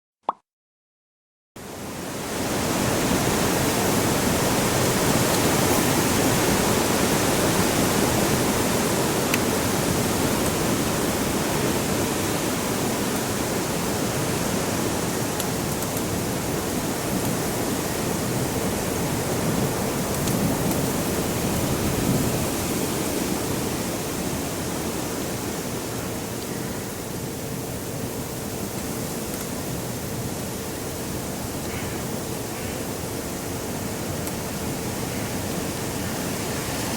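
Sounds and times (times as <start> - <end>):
heavy wind rushing: 2.2 - 36.9.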